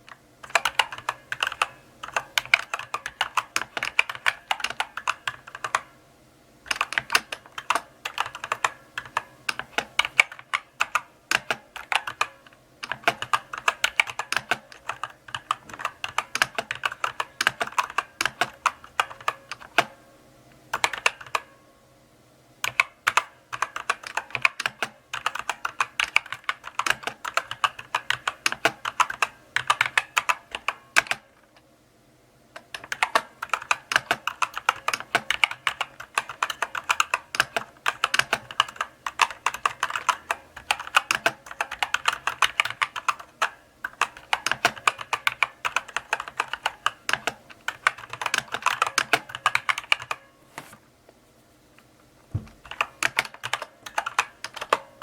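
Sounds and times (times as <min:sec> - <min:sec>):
mechanical keyboard typing: 0:00.0 - 0:05.9, 0:06.6 - 0:20.0, 0:20.7 - 0:21.5, 0:22.6 - 0:31.6, 0:32.6 - 0:50.3, 0:52.4 - 0:55.0.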